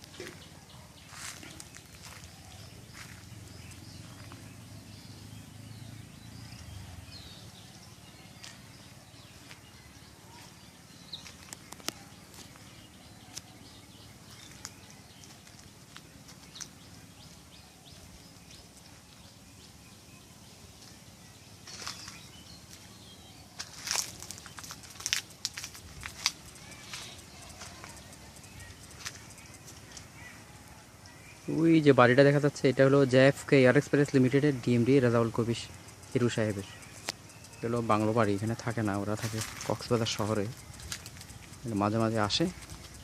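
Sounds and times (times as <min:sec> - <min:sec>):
faint steady background noise: 0:00.0 - 0:43.0.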